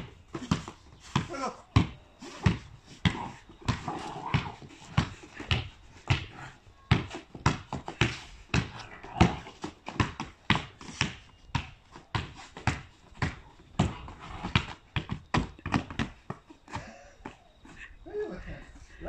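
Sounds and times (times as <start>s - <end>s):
basketball bouncing on timber deck: 0.3s - 16.4s.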